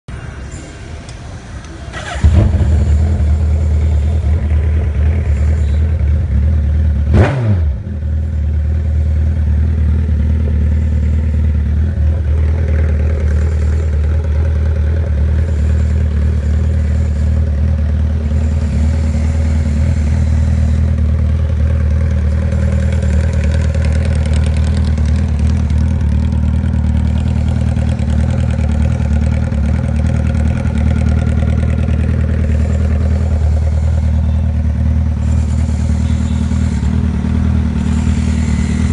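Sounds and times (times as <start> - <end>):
motorcycle engine idling: 1.0 - 38.9.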